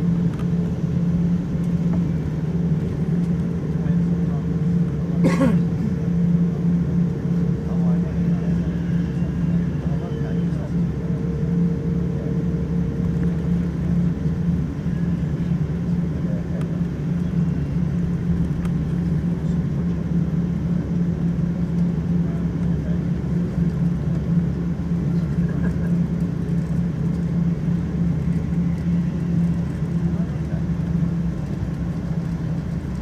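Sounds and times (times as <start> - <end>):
jet engine cabin drone: 0.0 - 33.0.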